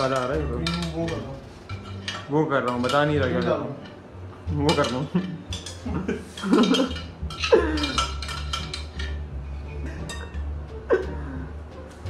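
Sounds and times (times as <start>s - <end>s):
utensils clinking against dishes: 0.0s - 11.0s.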